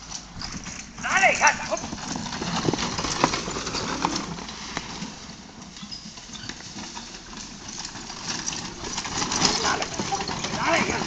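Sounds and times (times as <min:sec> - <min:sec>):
carriage wheels on dirt: 0:00.0 - 0:11.0
horse hoofbeats: 0:00.0 - 0:11.0.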